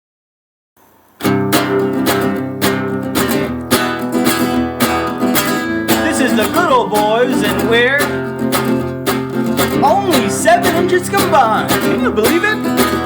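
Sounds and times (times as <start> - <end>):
acoustic guitar strumming chords: 0.8 - 13.0.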